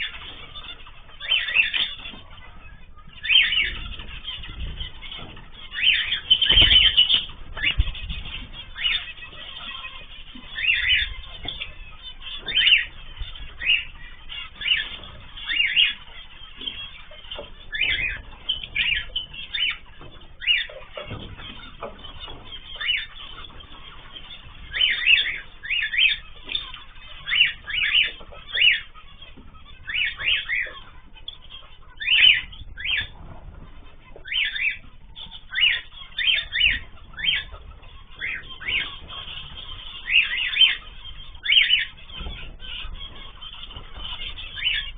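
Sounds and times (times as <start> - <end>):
caged birds chirping and squawking: 0.0 - 44.9.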